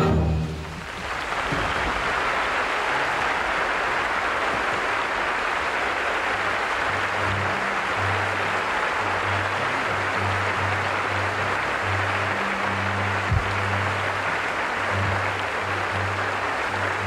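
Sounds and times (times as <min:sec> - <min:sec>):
audience applauding: 0:00.3 - 0:17.0.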